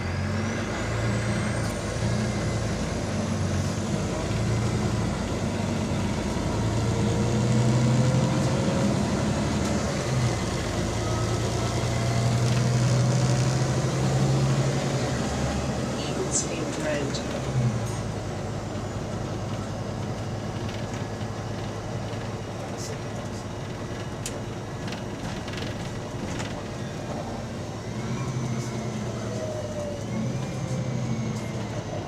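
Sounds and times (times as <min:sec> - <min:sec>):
bus diesel engine running: 0:00.0 - 0:32.0
road noise: 0:00.0 - 0:32.0.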